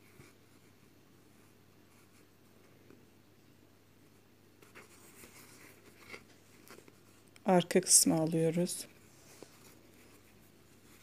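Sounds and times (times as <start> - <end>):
crochet yarn rustling: 0.0 - 3.0, 4.0 - 11.0.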